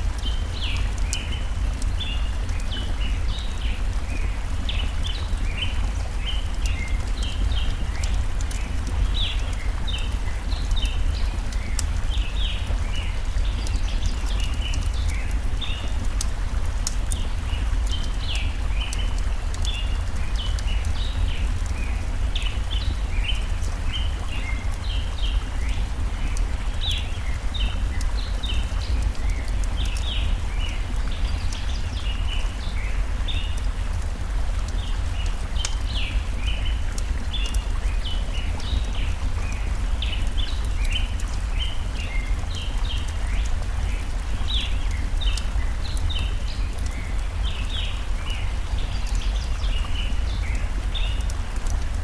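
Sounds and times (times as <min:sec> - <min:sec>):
campfire crackling: 0:00.0 - 0:52.0
stream flowing: 0:00.0 - 0:52.0.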